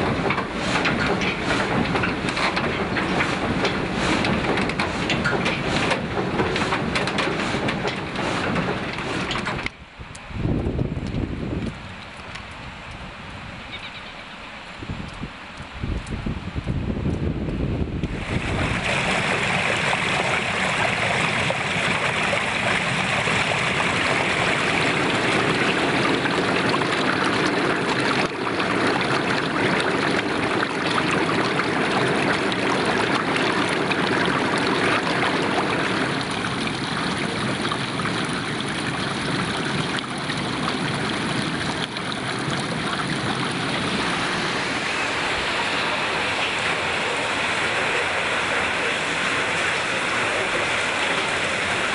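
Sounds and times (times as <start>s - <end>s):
water rushing down channel: 0.0s - 13.5s, 14.7s - 51.9s.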